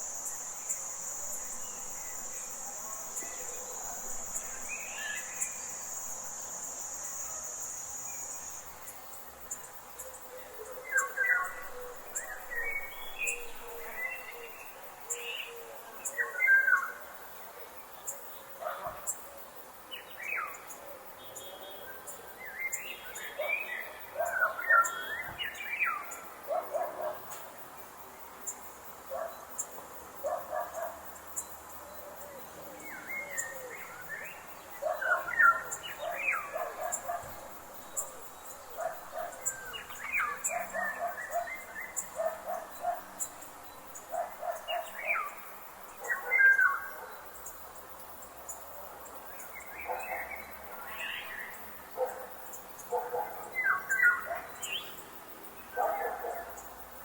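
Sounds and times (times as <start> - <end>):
faint steady high hiss: 0.0 - 57.0.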